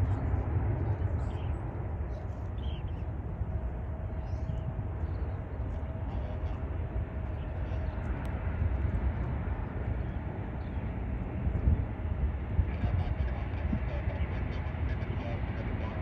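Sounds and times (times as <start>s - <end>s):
faint steady whine: 0.0s - 16.0s
jet engines rumbling: 0.0s - 16.0s.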